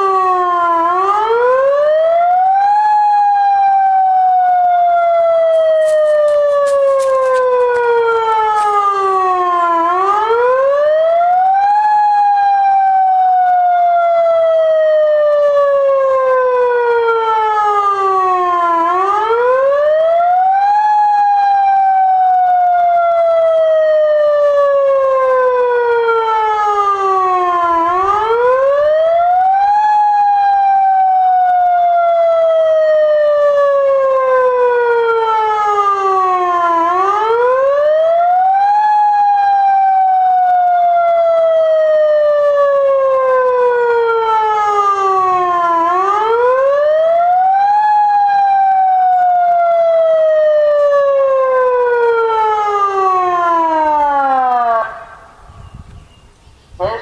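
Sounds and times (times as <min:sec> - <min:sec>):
electronic siren wailing: 0:00.0 - 0:56.2.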